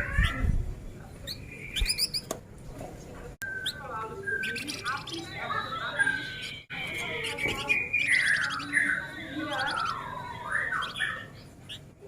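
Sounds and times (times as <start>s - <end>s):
songbird chattering song: 1.1s - 2.3s, 3.4s - 11.9s.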